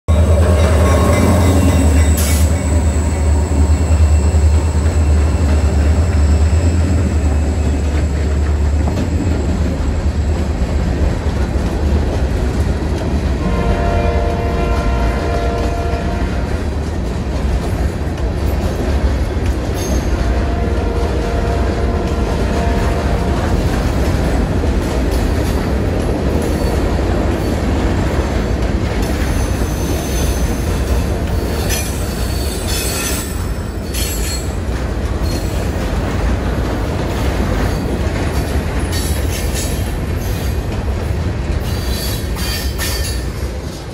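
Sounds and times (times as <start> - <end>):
diesel locomotive rumbling: 0.1 - 43.9
steel wheels rolling on rail: 0.1 - 43.9.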